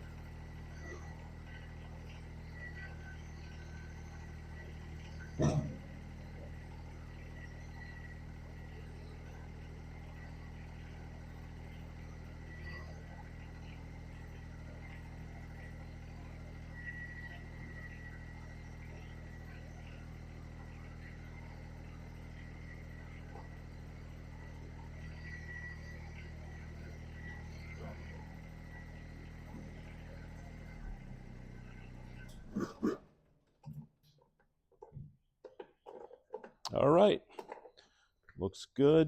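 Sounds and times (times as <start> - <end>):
tractor diesel engine running: 0.0 - 33.8, 34.8 - 38.1, 38.8 - 39.0.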